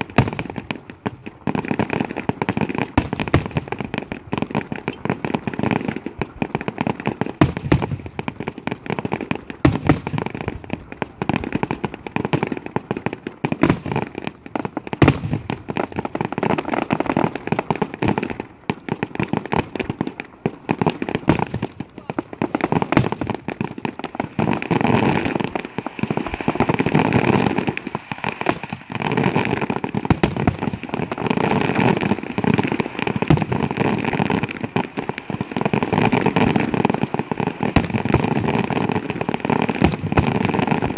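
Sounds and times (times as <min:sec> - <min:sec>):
fireworks crackling pops: 0:00.0 - 0:40.9
fireworks sharp bangs: 0:00.0 - 0:40.9.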